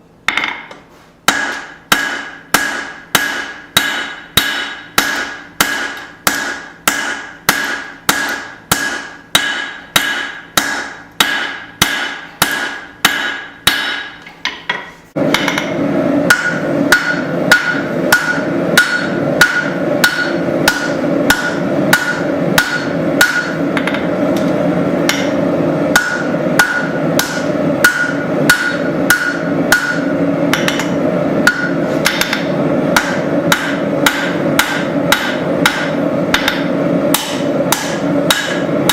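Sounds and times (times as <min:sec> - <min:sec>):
hammer striking steel on anvil: 0:00.3 - 0:38.9.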